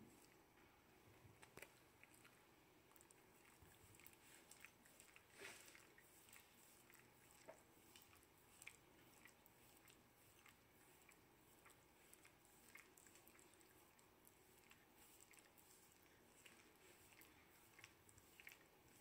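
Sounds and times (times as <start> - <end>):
dog licking and lip-smacking: 0.1 - 0.4, 1.3 - 19.0.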